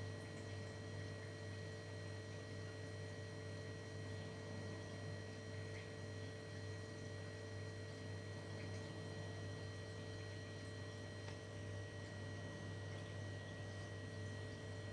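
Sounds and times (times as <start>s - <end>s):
low electrical hum: 0.0s - 14.9s.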